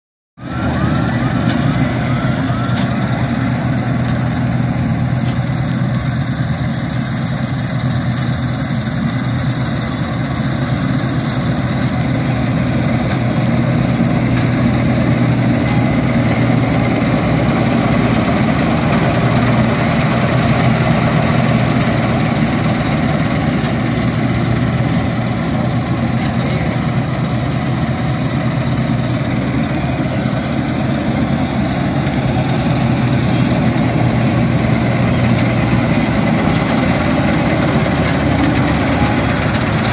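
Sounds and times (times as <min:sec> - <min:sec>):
diesel engine running steadily: 0:00.4 - 0:39.9.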